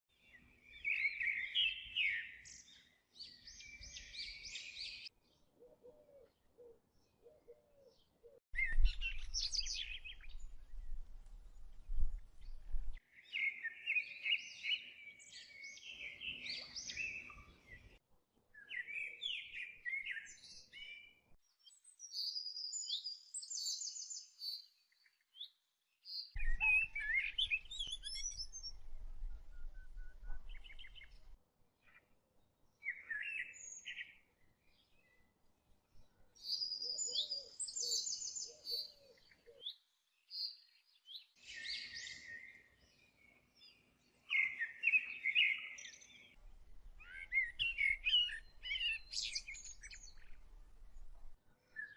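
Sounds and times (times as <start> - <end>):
small birds chirping: 0.1 - 18.0, 18.6 - 35.4, 36.0 - 51.9.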